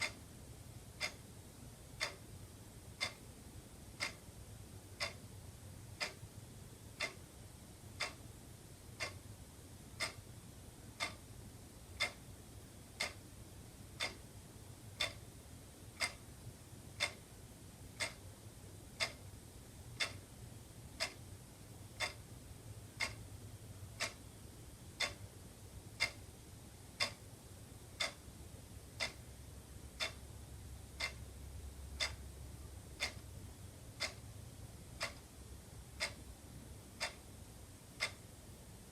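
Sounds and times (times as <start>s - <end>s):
wall clock ticking: 0.0s - 38.6s
faint low hum: 0.0s - 38.9s.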